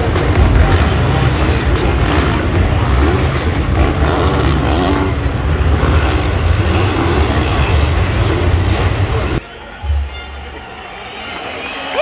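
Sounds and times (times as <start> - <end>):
motocross bike engines racing: 0.0 - 10.3.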